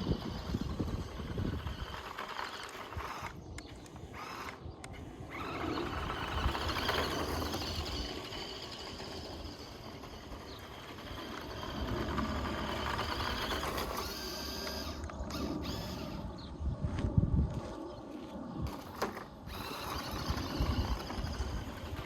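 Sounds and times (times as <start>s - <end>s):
toy car electric motor whining: 0.0s - 16.4s, 18.6s - 22.0s.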